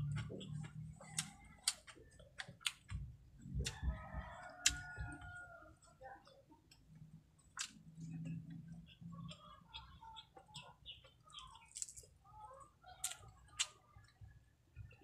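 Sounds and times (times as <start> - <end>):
chewing crunchy fried food: 0.0 - 9.4, 10.5 - 14.2.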